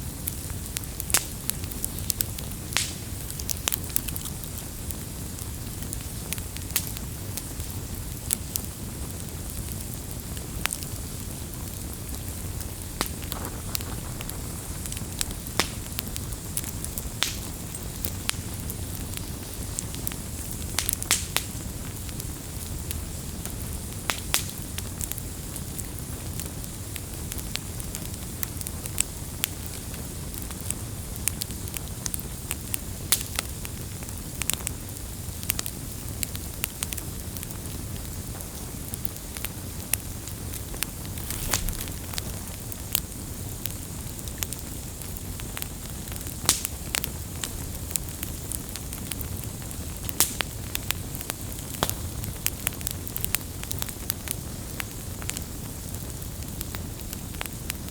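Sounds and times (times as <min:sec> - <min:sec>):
campfire burning rumble: 0:00.0 - 0:57.9
fire popping and crackling: 0:00.0 - 0:57.9.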